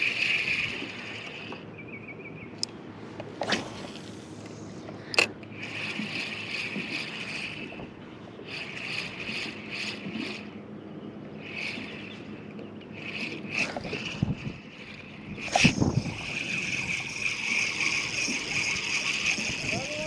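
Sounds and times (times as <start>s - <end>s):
fishing reel whirring: 0.0s - 1.6s, 3.4s - 20.0s.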